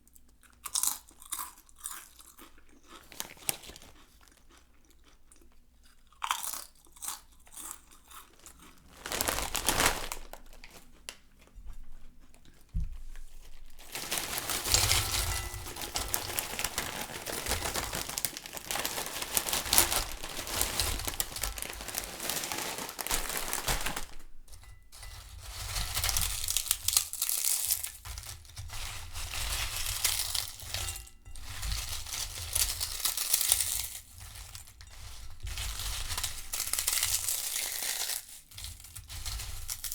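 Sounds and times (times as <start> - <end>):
chips rustling in a bowl: 0.4 - 5.0, 6.2 - 39.9
foil bag crinkling: 2.8 - 4.4, 8.1 - 12.0, 12.9 - 39.9.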